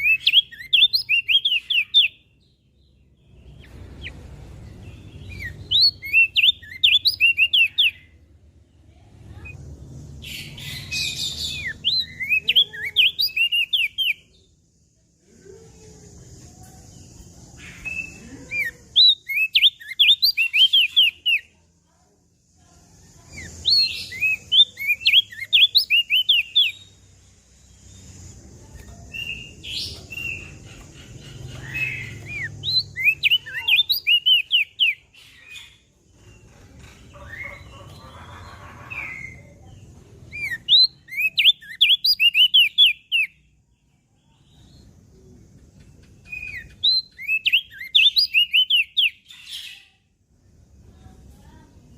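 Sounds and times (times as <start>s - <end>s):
bird high chirping song: 0.0s - 21.8s, 22.6s - 51.9s.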